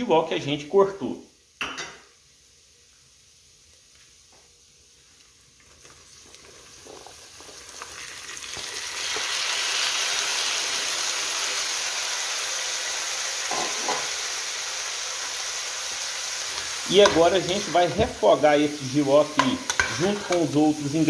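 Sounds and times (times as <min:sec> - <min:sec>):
frying sizzle in a pan: 0:00.0 - 0:21.0.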